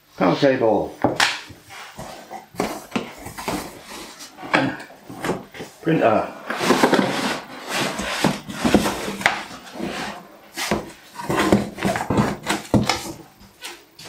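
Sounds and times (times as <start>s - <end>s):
cardboard scraping and knocking: 1.0s - 13.6s
hands rummaging in carton: 1.7s - 14.0s.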